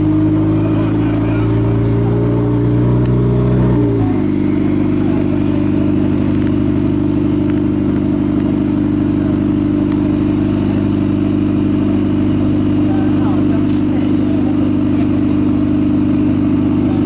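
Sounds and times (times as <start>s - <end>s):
race car engine idling: 0.0s - 17.0s.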